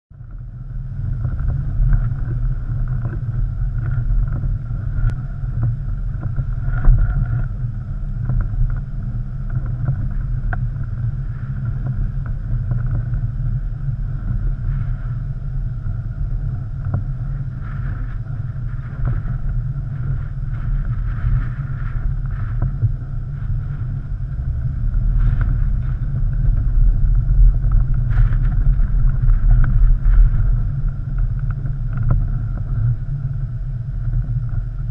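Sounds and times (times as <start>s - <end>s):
engine and drivetrain rumble: 0.1s - 34.9s
wind on microphone: 0.1s - 34.9s.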